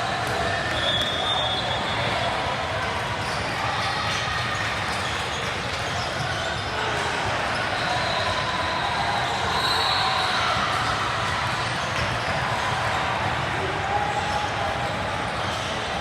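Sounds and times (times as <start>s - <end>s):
murmur of voices: 0.0s - 16.0s.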